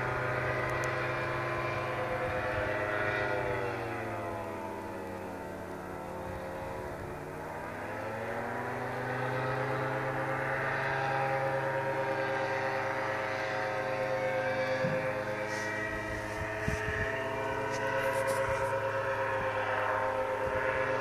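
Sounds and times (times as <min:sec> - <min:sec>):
paramotor engine droning: 0:00.0 - 0:21.0.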